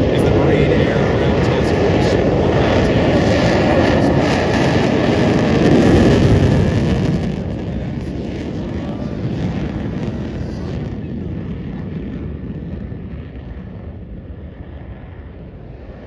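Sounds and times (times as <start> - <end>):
jet engine at takeoff: 0.0 - 16.0.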